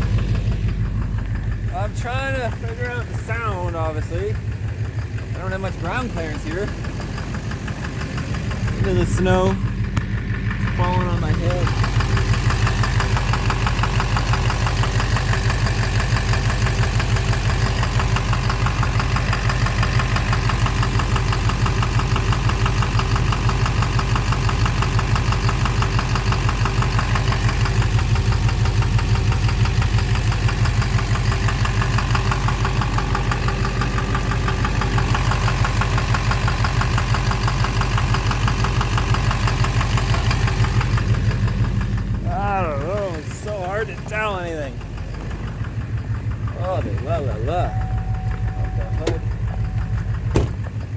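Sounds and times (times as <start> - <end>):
diesel engine idling with knock: 0.0 - 50.9.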